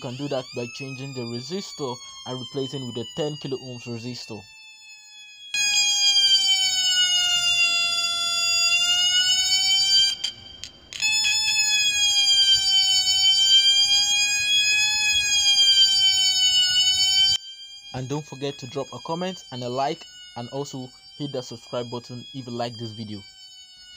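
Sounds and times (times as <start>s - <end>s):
electronic siren wailing: 0.0s - 23.9s.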